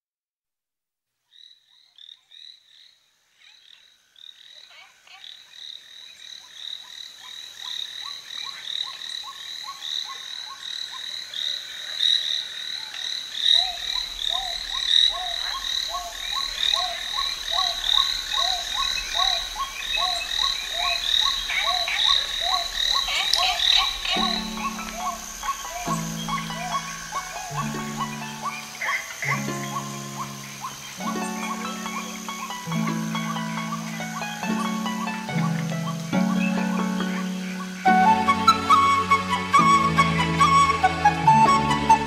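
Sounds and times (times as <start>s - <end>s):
frogs chirping: 1.3s - 42.0s
frogs croaking: 1.3s - 42.0s.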